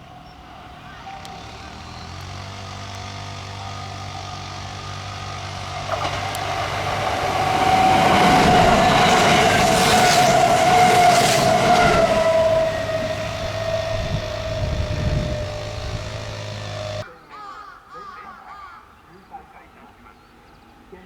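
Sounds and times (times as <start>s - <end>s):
electric train running past: 0.0s - 17.0s
high whine of train: 0.0s - 17.0s.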